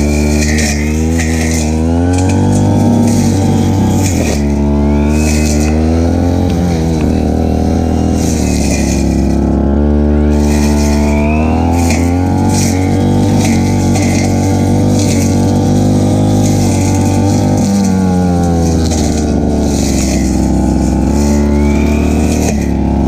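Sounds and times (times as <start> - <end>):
brush cutter engine cutting grass: 0.0 - 23.0.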